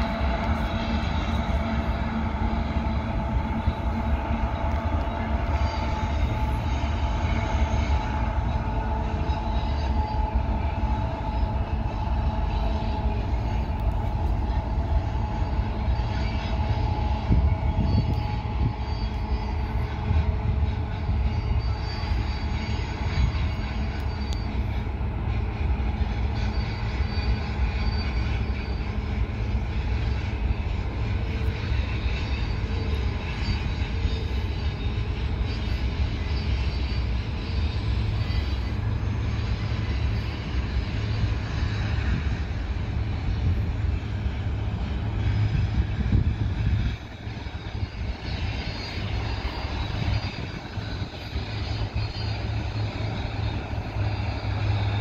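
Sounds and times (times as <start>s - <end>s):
freight train wheels rumbling: 0.0s - 55.0s
high wheel squeal: 0.0s - 55.0s.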